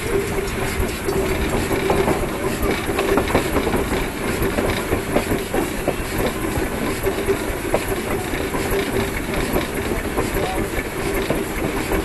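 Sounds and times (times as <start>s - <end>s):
train rumbling on rails: 0.0s - 12.0s
wheels clanking and clattering: 0.0s - 12.0s.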